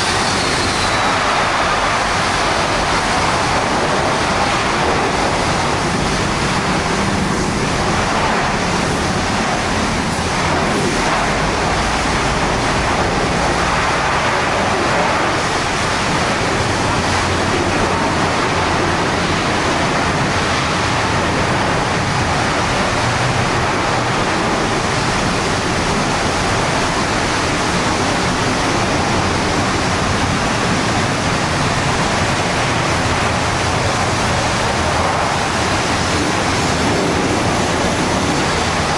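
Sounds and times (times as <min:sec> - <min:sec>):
car wash spray hissing: 0:00.0 - 0:38.9.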